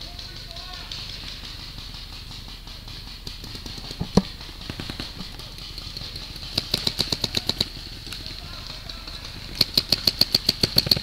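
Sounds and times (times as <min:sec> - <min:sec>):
pellet gun shots: 0:00.1 - 0:11.0.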